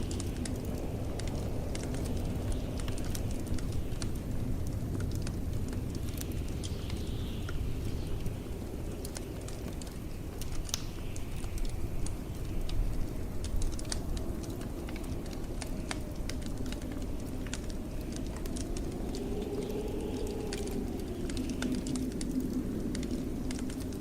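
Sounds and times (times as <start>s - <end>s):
howling blizzard wind: 0.0s - 24.0s
wood fire crackling and popping: 0.0s - 24.0s.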